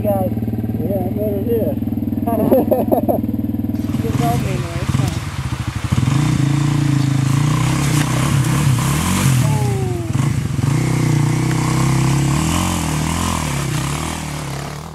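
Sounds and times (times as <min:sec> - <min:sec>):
off-road vehicle engine running: 0:00.0 - 0:14.9.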